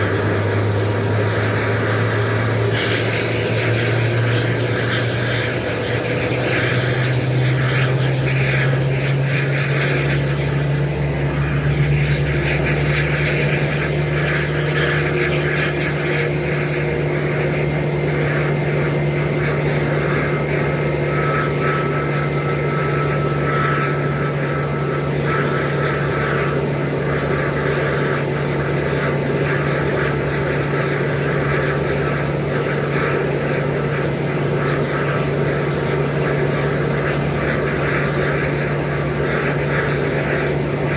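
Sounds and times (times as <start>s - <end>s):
high-pitched engine tones: 0.0s - 40.9s
jet engine droning: 0.0s - 40.9s.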